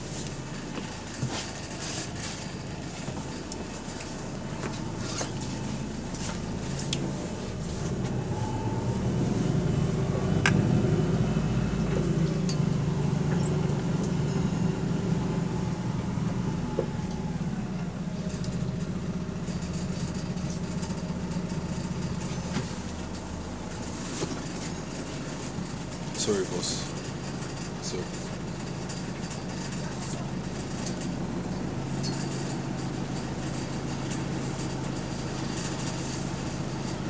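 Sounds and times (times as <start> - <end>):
bus engine droning: 0.0 - 37.0.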